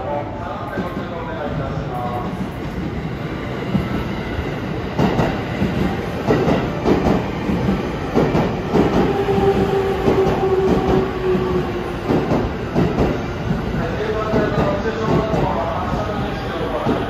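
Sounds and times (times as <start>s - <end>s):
train whine: 0.0s - 17.0s.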